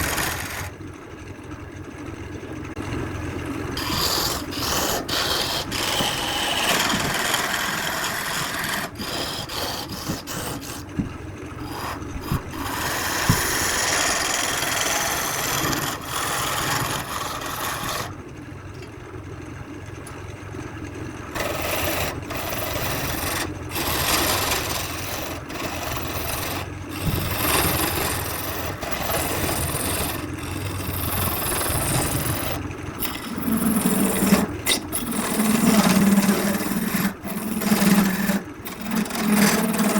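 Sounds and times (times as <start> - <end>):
sanding scrape on wood: 0.0 - 0.7, 3.8 - 18.1, 21.4 - 39.9.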